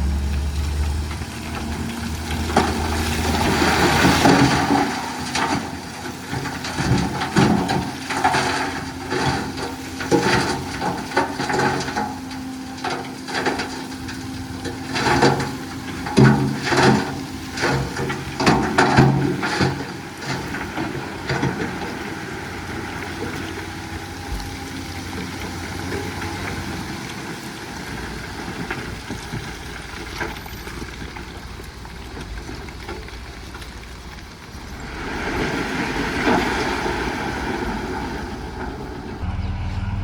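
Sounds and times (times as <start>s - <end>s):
heavy diesel engine running: 0.0s - 36.1s, 36.8s - 40.0s.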